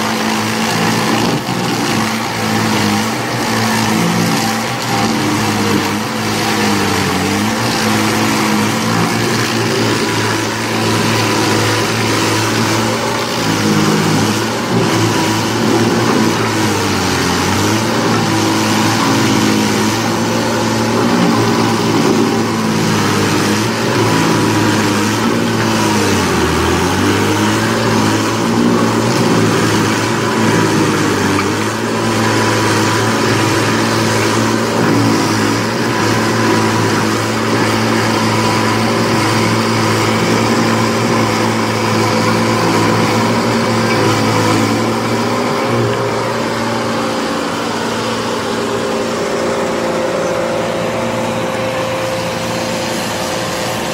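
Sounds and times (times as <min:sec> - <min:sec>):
cutter wheel rasping: 0:00.0 - 0:53.9
stump grinder engine drone: 0:00.0 - 0:53.9.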